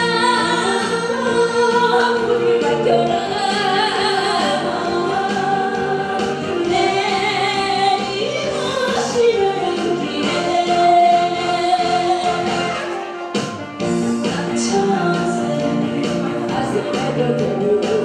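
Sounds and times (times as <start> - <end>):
woman singing into microphone: 0.0 - 12.9, 14.2 - 18.0
backing music: 0.0 - 18.0.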